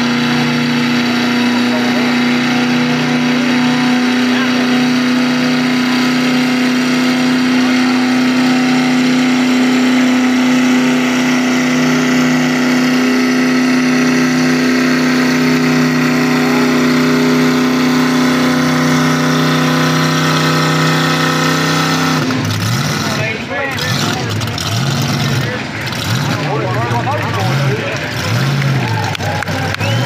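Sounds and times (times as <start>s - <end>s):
engine droning steadily: 0.0s - 30.0s.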